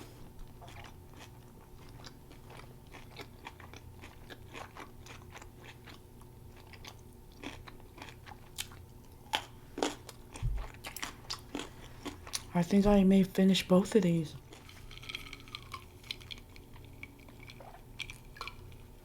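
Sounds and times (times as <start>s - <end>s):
chewing with soft crunching: 0.0s - 12.6s, 14.4s - 19.0s.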